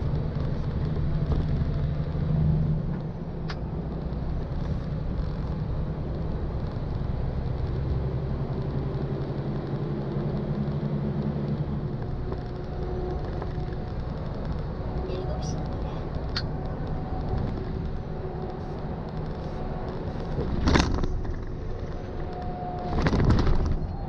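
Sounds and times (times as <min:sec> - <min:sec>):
diesel engine drone: 0:00.0 - 0:24.0
road and tyre rumble: 0:00.0 - 0:24.0.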